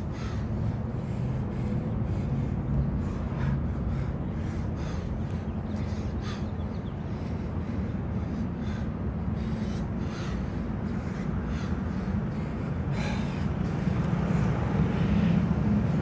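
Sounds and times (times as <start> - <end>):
low outdoor rumble: 0.0 - 16.0
man breathing hard: 0.0 - 16.0.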